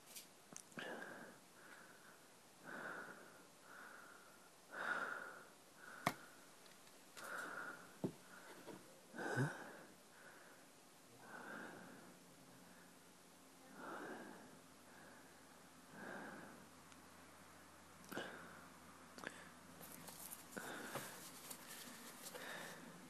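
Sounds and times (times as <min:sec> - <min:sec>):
heavy breathing: 0:00.8 - 0:06.5, 0:07.2 - 0:13.1, 0:13.7 - 0:16.7, 0:18.1 - 0:23.0.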